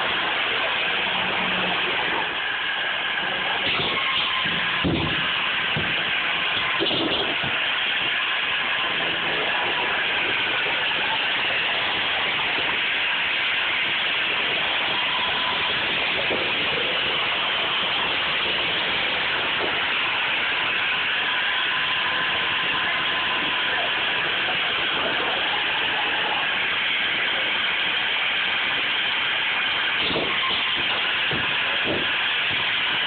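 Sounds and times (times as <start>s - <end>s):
steady mechanical hiss: 0.0s - 33.0s.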